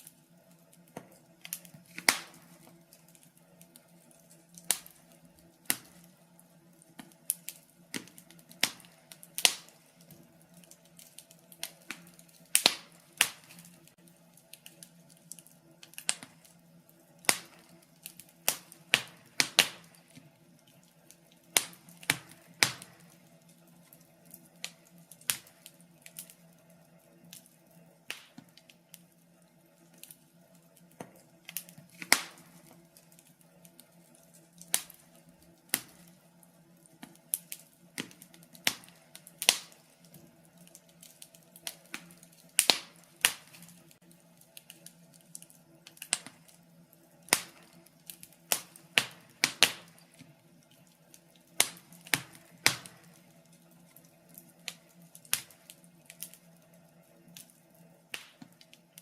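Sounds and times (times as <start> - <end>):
wood logs crackling and popping: 0.0 - 59.0.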